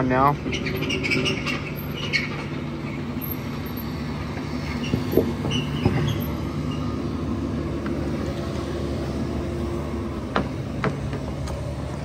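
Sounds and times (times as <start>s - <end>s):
heavy equipment engine running: 0.0s - 12.0s.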